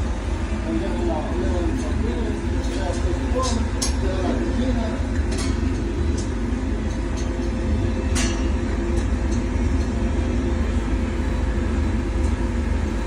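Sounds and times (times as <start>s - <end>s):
refrigeration motor humming: 0.0s - 13.0s.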